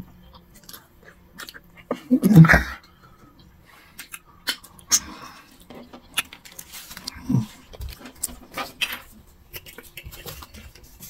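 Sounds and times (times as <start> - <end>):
wet eating sounds: 0.2 - 11.0.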